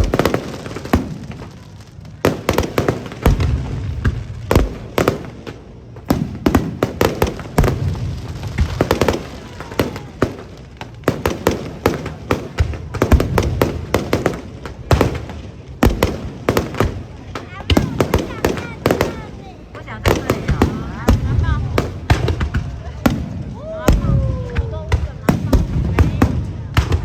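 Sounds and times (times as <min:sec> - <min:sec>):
fireworks banging and crackling: 0:00.0 - 0:27.0.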